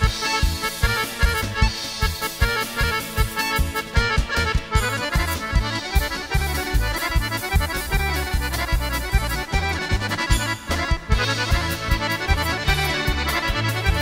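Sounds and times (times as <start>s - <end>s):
accordion playing dance tune: 0.0s - 14.0s.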